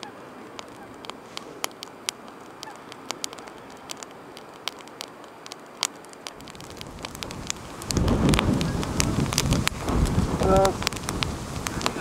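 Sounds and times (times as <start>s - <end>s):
twigs crackling and popping in fire: 0.0s - 12.0s.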